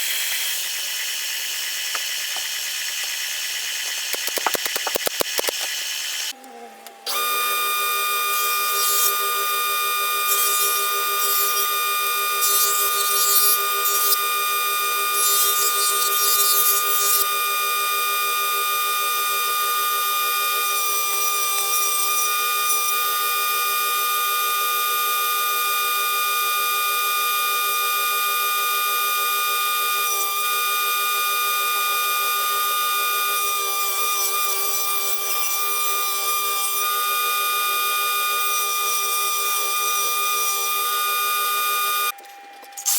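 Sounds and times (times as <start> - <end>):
power tool motor whining: 0.0 - 42.2
harsh cutting noise: 0.0 - 42.9.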